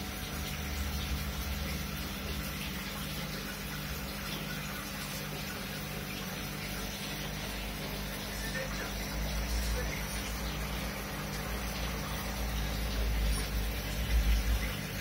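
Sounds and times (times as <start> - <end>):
low pump hum: 0.0 - 15.0.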